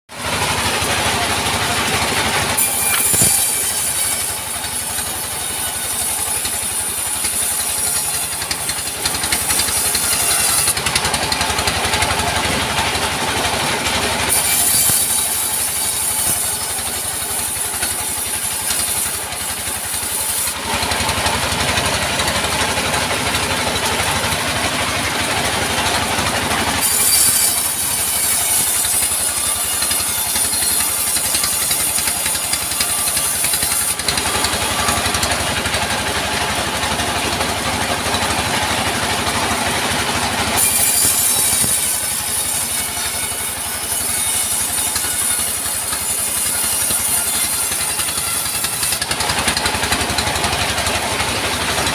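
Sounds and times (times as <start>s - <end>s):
band saw cutting log: 0.1s - 51.9s
diesel engine running: 0.1s - 51.9s.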